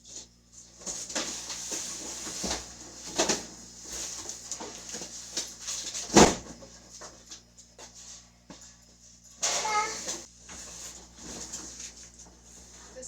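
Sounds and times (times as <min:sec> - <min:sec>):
boxes rustling and scraping: 0:00.0 - 0:13.0.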